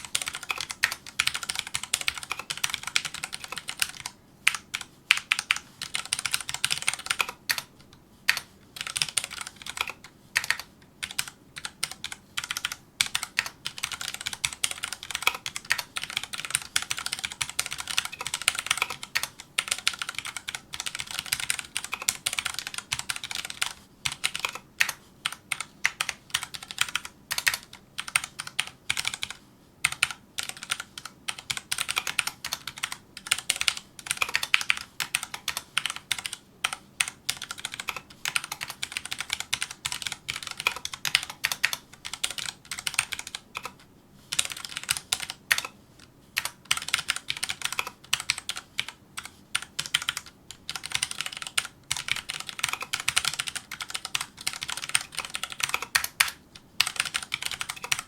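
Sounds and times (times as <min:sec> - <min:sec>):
mechanical keyboard typing: 0:00.0 - 0:07.7, 0:08.3 - 0:45.8, 0:46.4 - 0:58.0.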